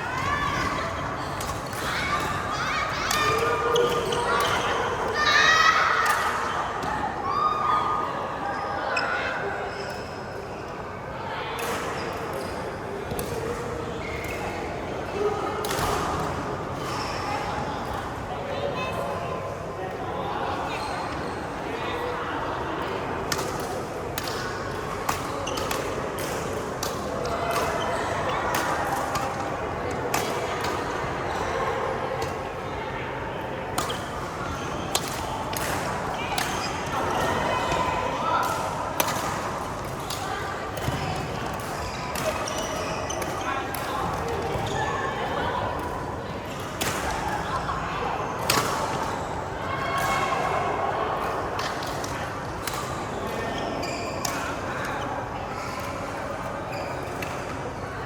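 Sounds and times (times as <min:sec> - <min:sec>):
people talking: 0:00.0 - 0:09.8, 0:13.0 - 0:56.6
background hum of hall: 0:00.0 - 0:58.0.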